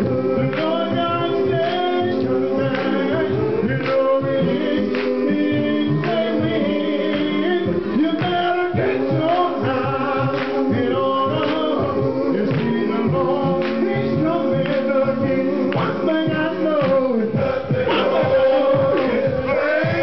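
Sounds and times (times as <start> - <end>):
man singing lead: 0.0 - 20.0
men's choir holding chords: 0.0 - 20.0
steady beat: 0.0 - 20.0.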